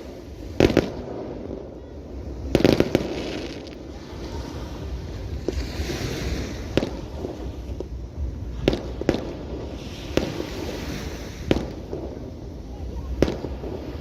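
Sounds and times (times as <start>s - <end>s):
background rumble: 0.0s - 14.0s.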